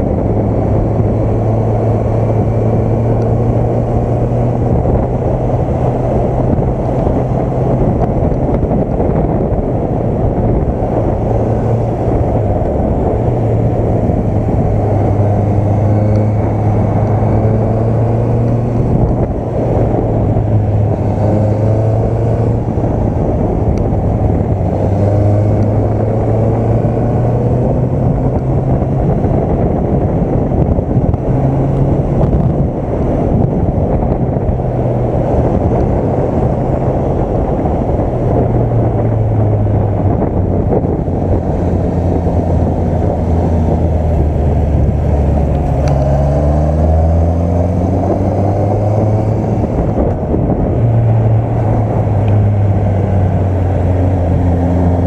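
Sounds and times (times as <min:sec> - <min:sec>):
motorcycle engine revving: 0:00.0 - 0:55.0
wind rushing on microphone: 0:00.0 - 0:55.0.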